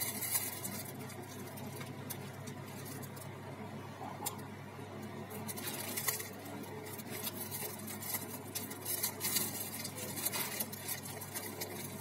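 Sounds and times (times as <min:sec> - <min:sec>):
paper and plastic bag crinkling: 0:00.0 - 0:03.3, 0:05.4 - 0:12.0.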